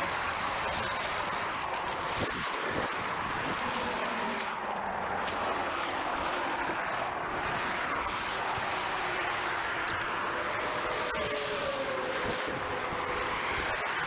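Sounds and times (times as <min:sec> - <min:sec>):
highway traffic rushing by: 0:00.0 - 0:14.0.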